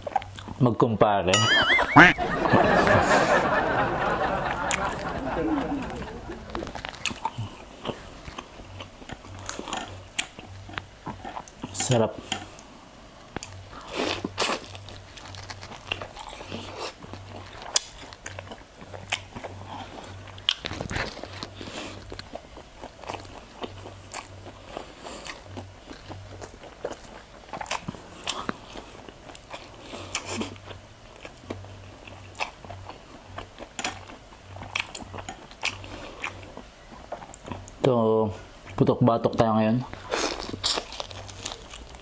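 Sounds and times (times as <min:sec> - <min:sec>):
crunchy food chewing: 0:04.2 - 0:38.8, 0:39.9 - 0:42.0.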